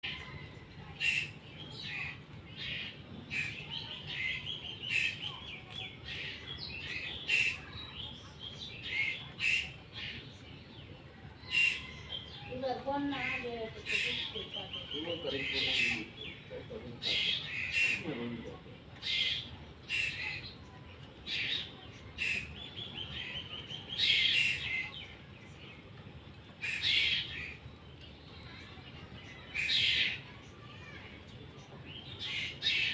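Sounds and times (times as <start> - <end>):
bird chattering: 0.0 - 10.4, 11.4 - 18.4, 19.0 - 25.2, 26.5 - 27.8, 28.4 - 32.9
bird chirping: 0.0 - 32.9.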